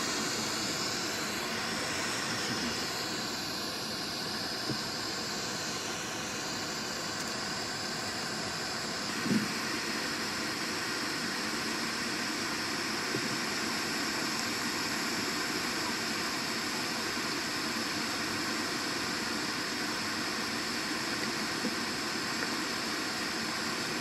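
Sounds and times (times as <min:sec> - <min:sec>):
steady hissing noise: 0:00.0 - 0:24.0.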